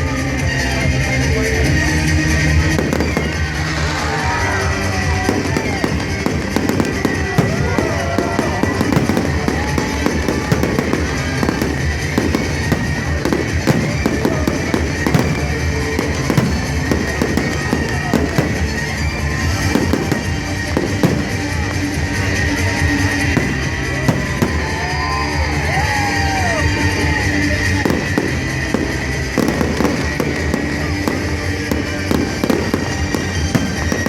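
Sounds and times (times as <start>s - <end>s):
fireworks bursting and crackling: 0.0s - 34.0s
music playing: 0.0s - 34.0s.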